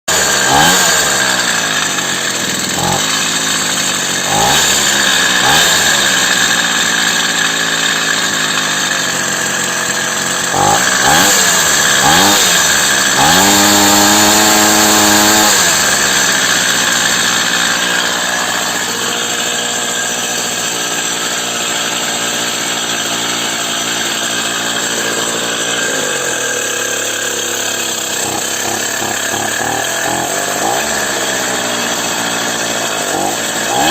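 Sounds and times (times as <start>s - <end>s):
moped engine revving: 0.1s - 33.9s.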